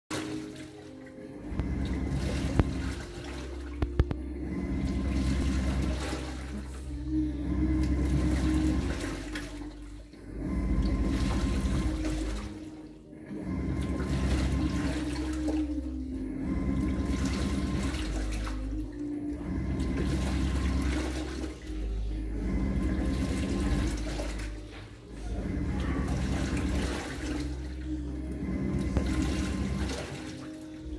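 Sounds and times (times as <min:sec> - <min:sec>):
washing machine motor agitating: 0:00.0 - 0:30.9
water rushing from inlet: 0:00.1 - 0:30.9
water sloshing in tub: 0:00.1 - 0:30.9.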